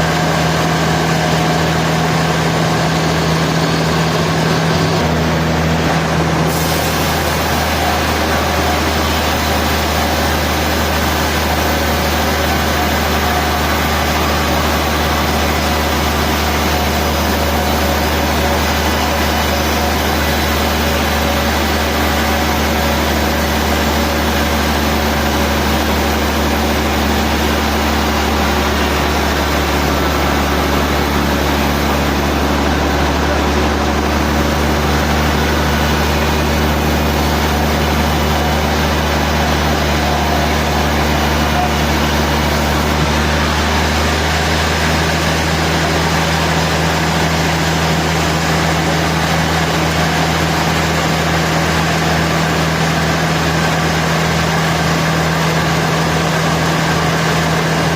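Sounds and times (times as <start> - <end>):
low motor hum: 0.0 - 57.9
sawmill machinery running: 0.0 - 57.9.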